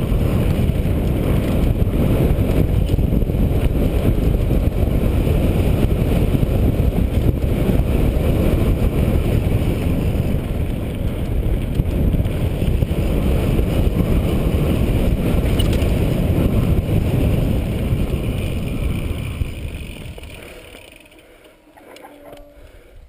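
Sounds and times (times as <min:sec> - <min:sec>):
wind rushing over microphone: 0:00.0 - 0:21.1
bike tyre rumble on dirt: 0:00.0 - 0:21.5.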